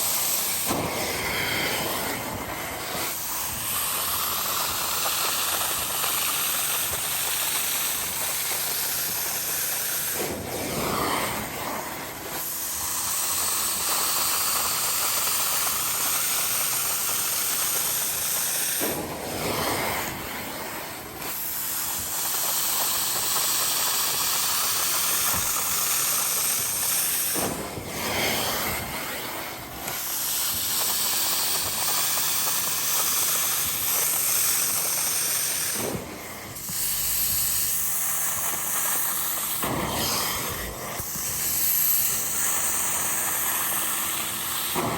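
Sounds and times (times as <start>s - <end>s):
vacuum hissing: 0.0s - 44.9s.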